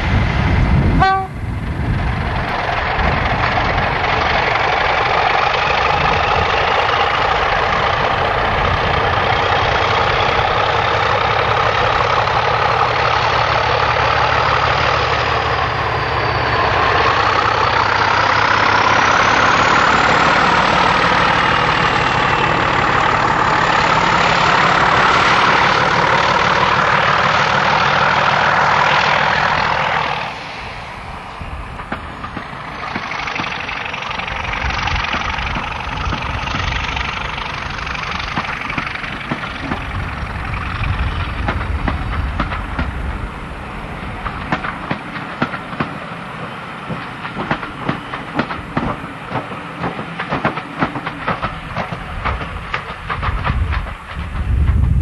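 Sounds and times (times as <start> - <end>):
diesel locomotive engine under load: 0.0 - 55.0.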